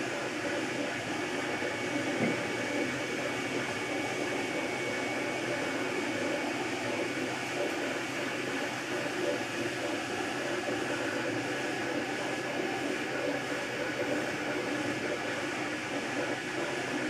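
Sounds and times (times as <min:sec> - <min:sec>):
printer fans whirring: 0:00.0 - 0:17.0.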